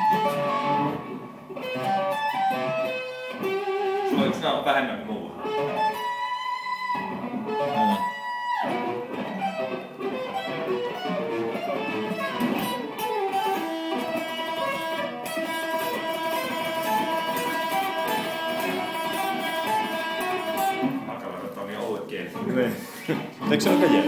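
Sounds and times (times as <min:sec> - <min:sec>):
electric guitar lead line: 0:00.0 - 0:21.6, 0:22.3 - 0:24.0.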